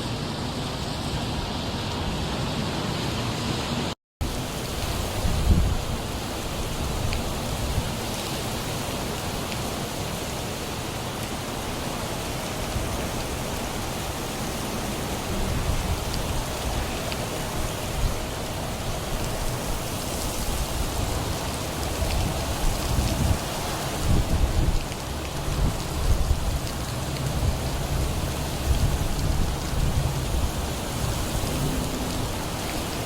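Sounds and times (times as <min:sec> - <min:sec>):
heavy rain: 0:00.0 - 0:33.0
wind gusts on microphone: 0:00.8 - 0:33.0.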